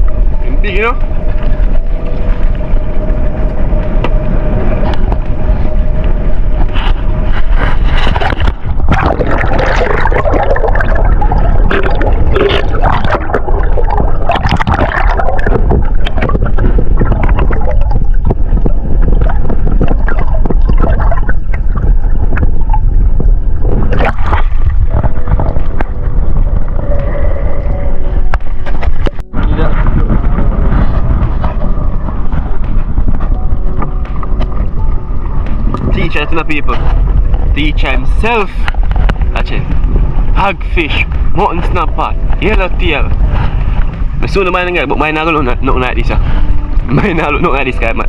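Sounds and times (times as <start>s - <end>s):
low rumble: 0.0s - 48.0s
water gurgling and splashing: 0.0s - 48.0s.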